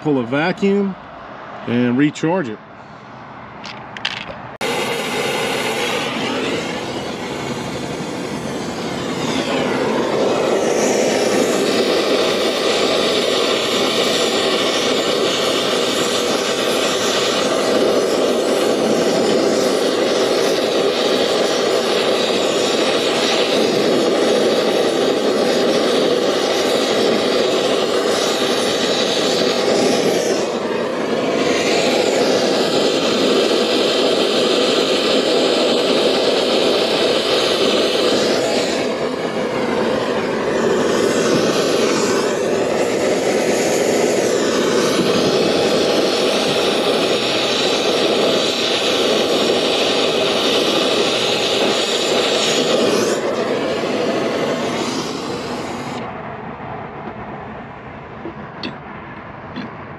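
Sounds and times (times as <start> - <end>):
torch flame rushing: 2.8 - 57.4.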